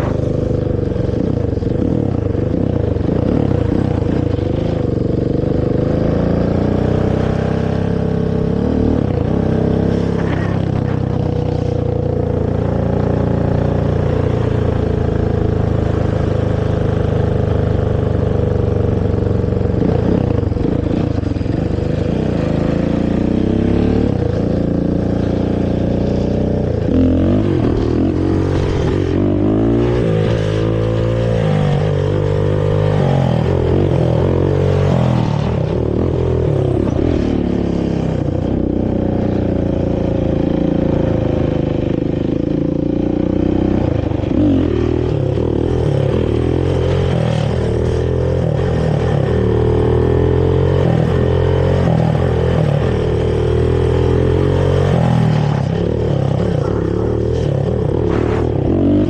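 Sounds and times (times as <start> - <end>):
quad engine revving: 0.0 - 59.0.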